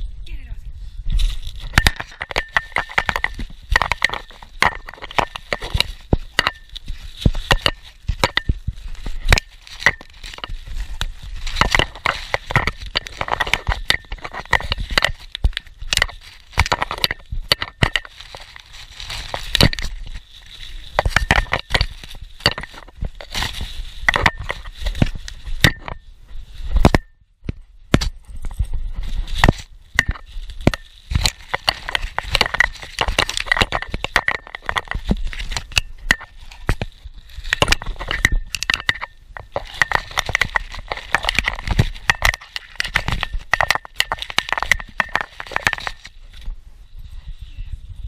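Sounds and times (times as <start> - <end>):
bubble wrap crinkling and popping: 1.1 - 27.1, 27.9 - 46.5.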